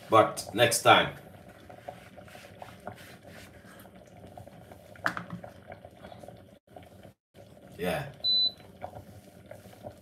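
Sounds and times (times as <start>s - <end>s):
soup simmering and bubbling: 0.1s - 10.0s.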